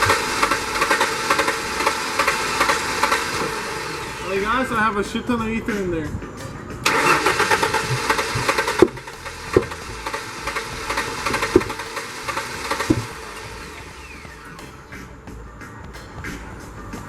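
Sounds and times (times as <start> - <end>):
engine cranking on starter: 0.0 - 17.0
engine sharp pops: 0.0 - 17.0.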